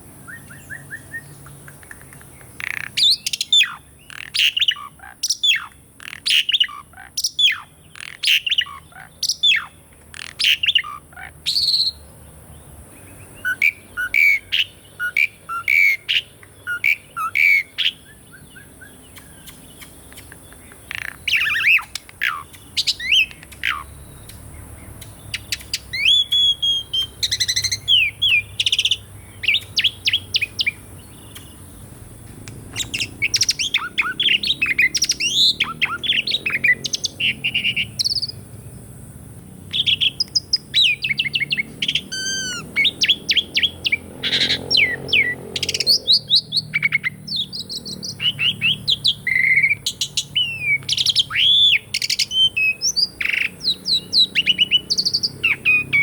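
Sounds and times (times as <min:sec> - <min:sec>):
starling singing whistles and chirps: 0:00.0 - 0:12.2, 0:12.9 - 0:38.5, 0:39.7 - 0:56.0.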